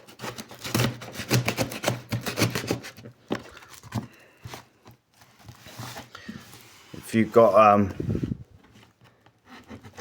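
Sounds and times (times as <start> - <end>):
cardboard scraping: 0.0 - 10.0.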